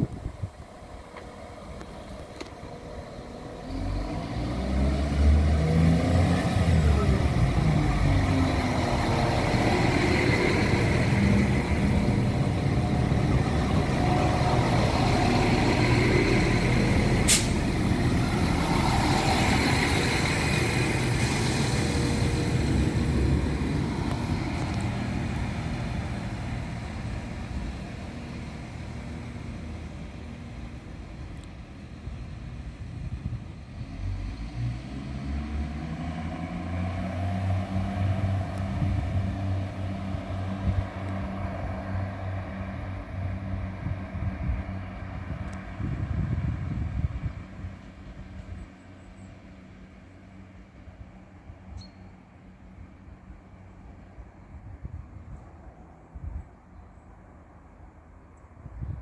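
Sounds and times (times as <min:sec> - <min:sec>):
diesel railcar running: 0:00.0 - 0:55.2.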